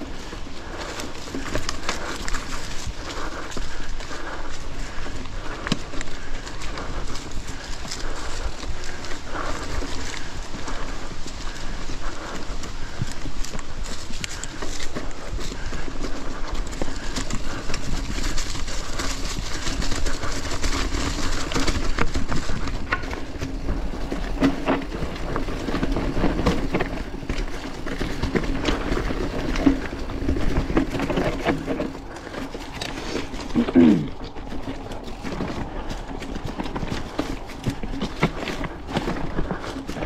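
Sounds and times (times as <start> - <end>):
bike knocking and rattling: 0.0 - 40.0
tyres crunching through leaves: 0.0 - 40.0.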